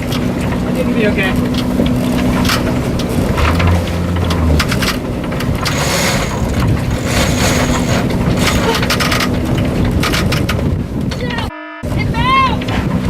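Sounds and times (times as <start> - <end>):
boat engine running: 0.0 - 11.0
loud wind on microphone: 1.3 - 13.0.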